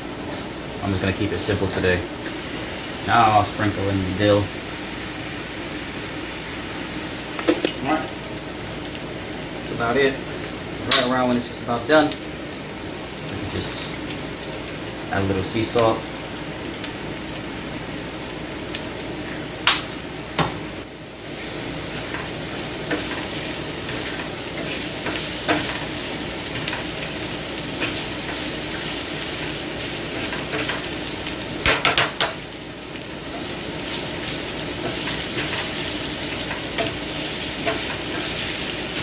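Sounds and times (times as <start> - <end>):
vegetables sizzling in a pan: 0.0 - 39.0.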